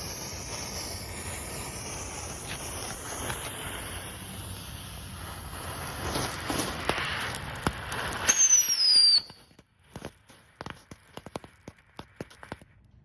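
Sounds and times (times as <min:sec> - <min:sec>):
firework hissing: 0:00.0 - 0:12.7.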